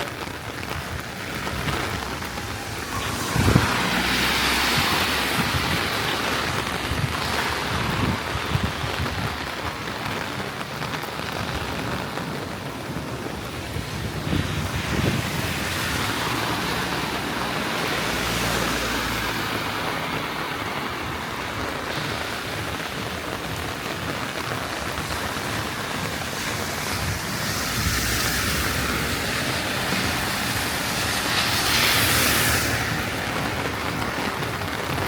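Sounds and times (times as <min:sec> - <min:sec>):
heavy rain pouring: 0:00.0 - 0:35.0.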